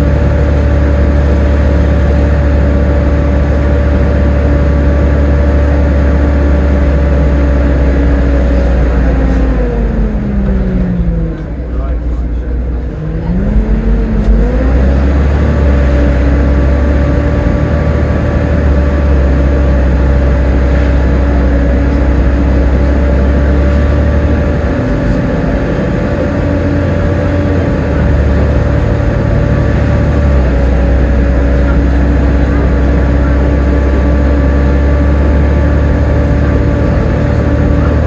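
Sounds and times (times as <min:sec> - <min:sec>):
bus engine whine: 0:00.0 - 0:38.0
heavy low engine rumble: 0:00.0 - 0:38.0.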